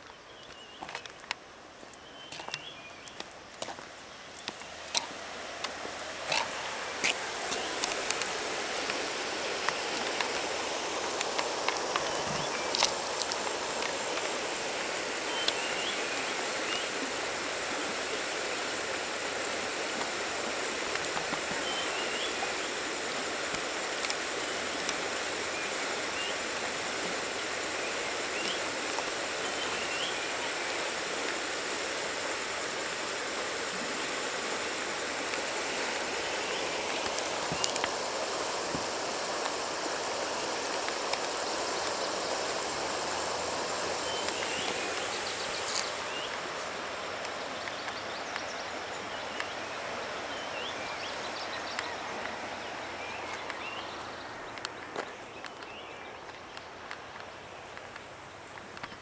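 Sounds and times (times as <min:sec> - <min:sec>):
river water rushing over stones: 0:00.0 - 0:59.0.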